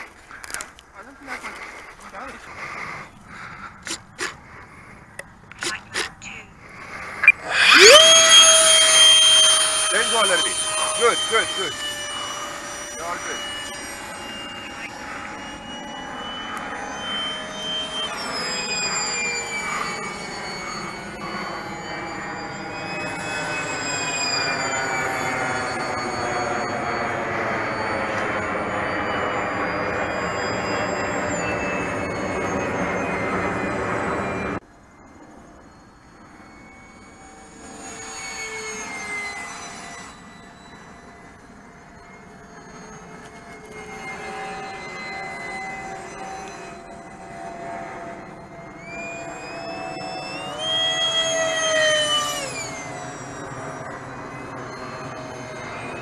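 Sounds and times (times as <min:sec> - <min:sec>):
model plane motors whining: 0:00.0 - 0:56.0.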